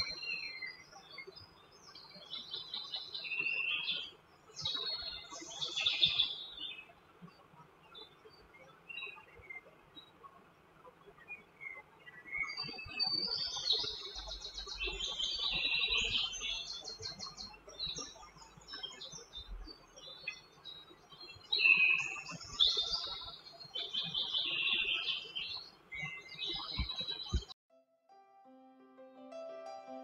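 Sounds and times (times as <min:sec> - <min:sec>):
songbird chirps and trills: 0:00.0 - 0:27.6.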